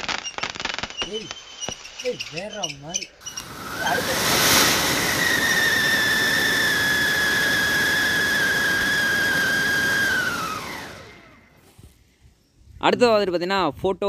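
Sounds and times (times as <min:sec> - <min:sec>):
firework high whistle: 0:00.0 - 0:11.6
hiss of spraying sparks: 0:00.0 - 0:11.6.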